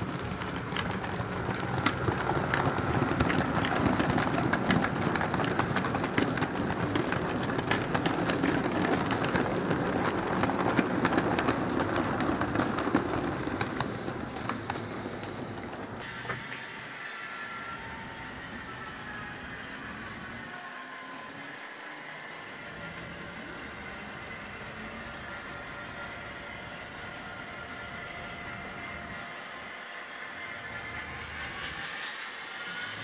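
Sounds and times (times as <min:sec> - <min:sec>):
model train wheels clicking: 0:00.0 - 0:33.0.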